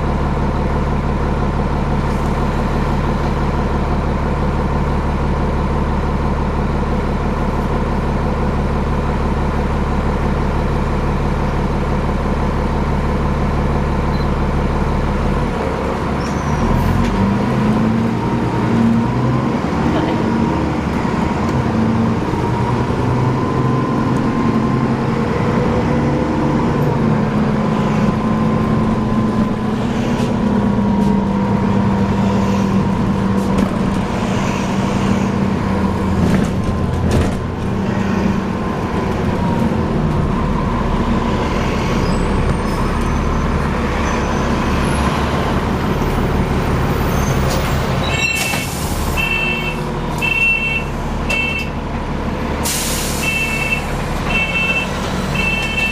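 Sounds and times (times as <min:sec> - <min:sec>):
bus drivetrain noise: 0:00.0 - 0:55.9.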